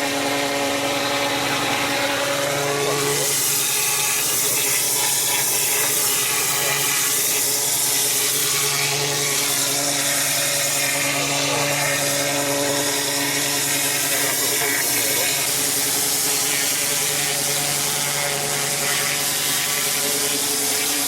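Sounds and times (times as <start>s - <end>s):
high-pressure water jet hissing: 0.0s - 21.0s.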